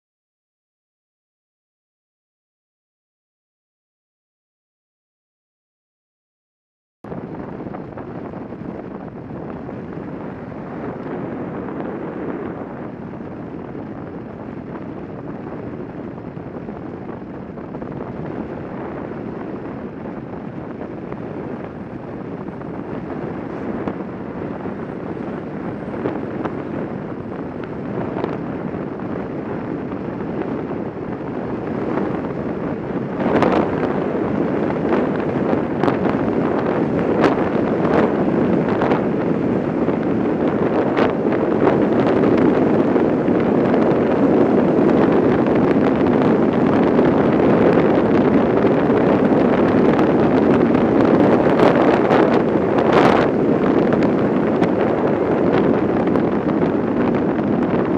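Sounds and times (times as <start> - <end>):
rushing wind: 7.0 - 57.9
road noise of rolling vehicle: 7.1 - 57.9.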